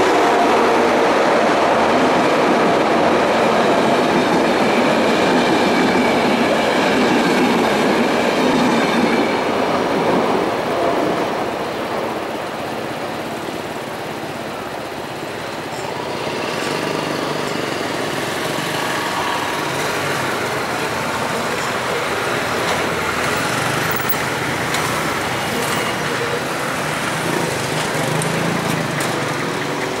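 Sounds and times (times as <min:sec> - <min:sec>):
locomotive diesel engine: 0:00.0 - 0:30.0.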